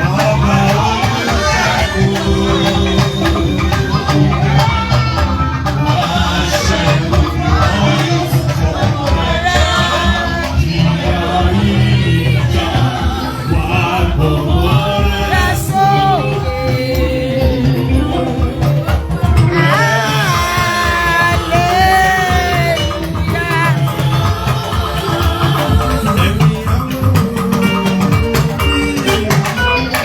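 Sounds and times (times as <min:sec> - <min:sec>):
steady low beat: 0:00.0 - 0:29.3
voices singing church music: 0:00.0 - 0:30.0.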